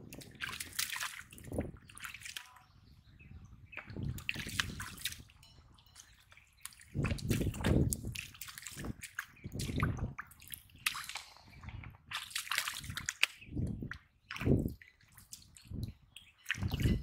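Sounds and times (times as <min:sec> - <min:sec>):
muddy water sloshing: 0:00.0 - 0:17.0.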